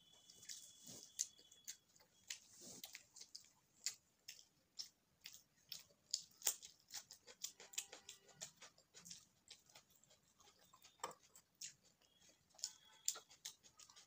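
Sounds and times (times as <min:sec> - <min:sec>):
close chewing mouth clicks: 0:00.1 - 0:14.0.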